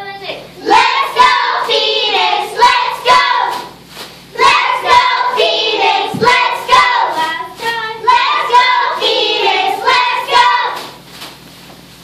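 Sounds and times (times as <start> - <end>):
girls chanting a cheer: 0.6 - 11.0.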